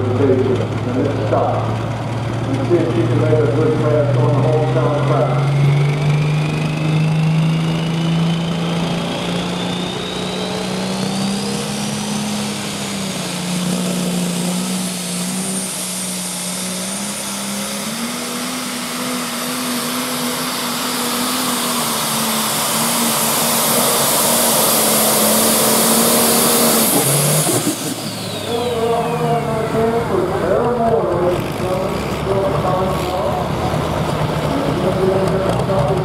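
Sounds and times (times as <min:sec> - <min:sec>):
diesel engine at full throttle: 0:00.0 - 0:36.0.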